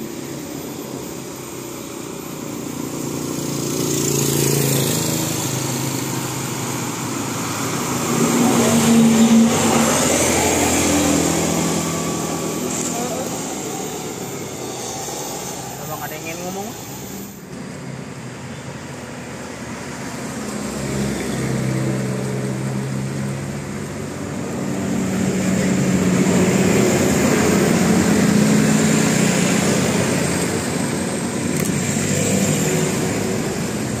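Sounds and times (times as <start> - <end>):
bus engine passing: 0.0 - 34.0
traffic noise: 0.0 - 34.0.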